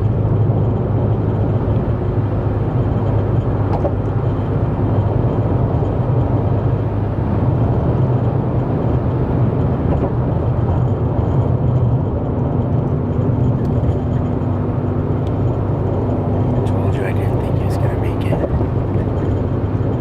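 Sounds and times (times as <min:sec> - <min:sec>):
road noise: 0:00.0 - 0:20.0
truck engine drone: 0:00.0 - 0:20.0.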